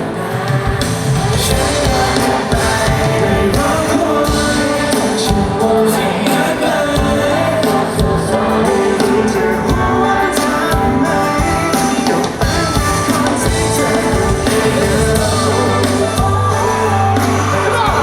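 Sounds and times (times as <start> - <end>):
live pop band with singing: 0.0 - 18.0
steady drum beat: 0.0 - 18.0.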